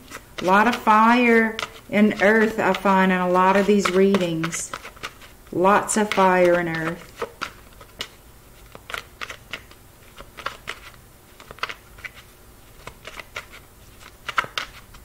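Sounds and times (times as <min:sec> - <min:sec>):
cards being shuffled: 0:00.0 - 0:15.0.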